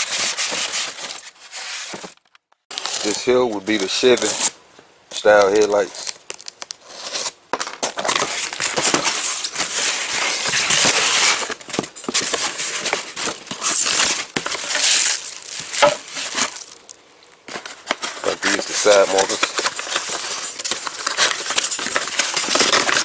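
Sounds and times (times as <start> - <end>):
packaging crinkling and rustling: 0.0 - 4.5, 5.3 - 23.0.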